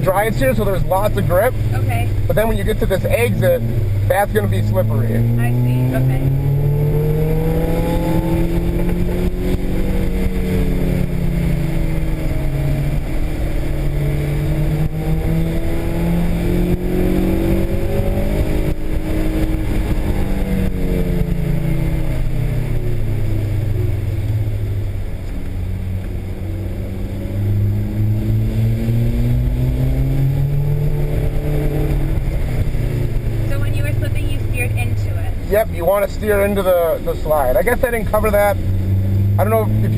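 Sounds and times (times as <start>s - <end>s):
car engine: 0.0s - 39.9s
road and tyre noise: 0.0s - 39.9s.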